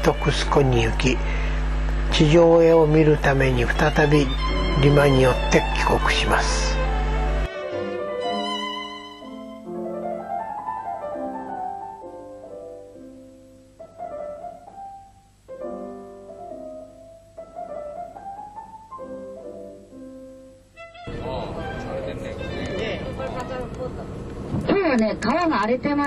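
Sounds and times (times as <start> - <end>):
slow piano melody: 0.0 - 24.5.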